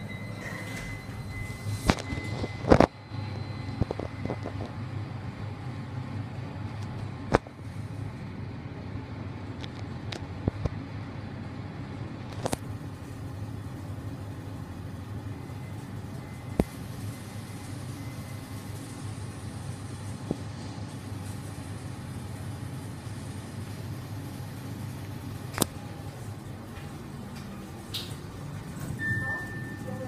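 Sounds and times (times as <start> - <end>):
lift humming and rumbling: 0.0 - 30.0.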